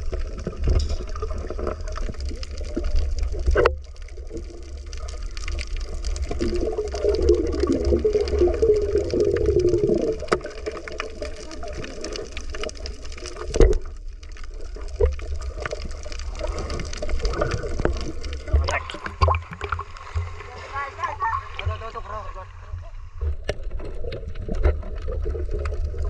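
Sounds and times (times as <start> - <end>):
small underwater clicks: 0.0 - 20.4, 23.2 - 26.0
muffled underwater rumble: 0.0 - 26.0.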